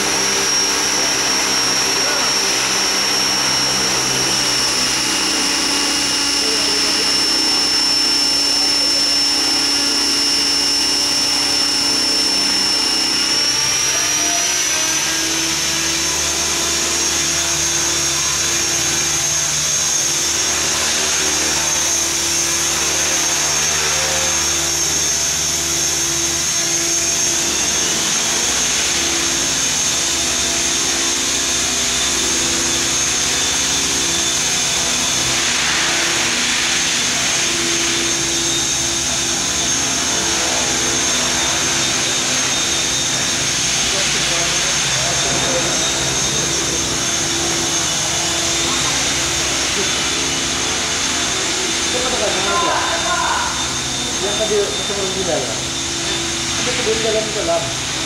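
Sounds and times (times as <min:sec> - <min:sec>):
model helicopter whining: 0:00.0 - 0:58.0.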